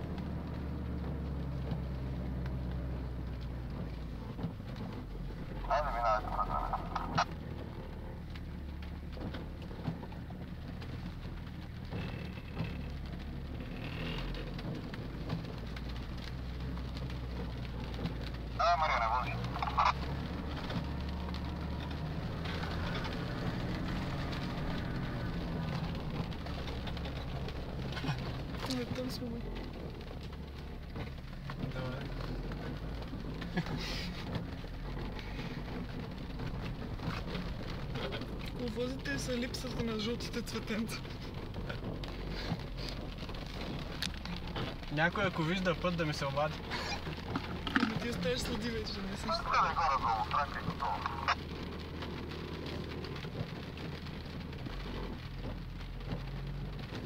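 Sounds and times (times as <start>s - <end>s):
car engine droning: 0.0s - 57.0s
raindrops ticking on windscreen: 0.0s - 57.0s
wipers sweeping: 0.1s - 57.0s.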